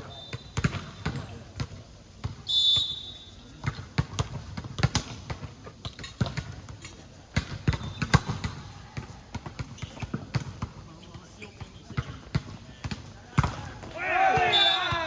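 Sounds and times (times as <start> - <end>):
ball bouncing on court: 0.1 - 2.9, 3.5 - 15.0.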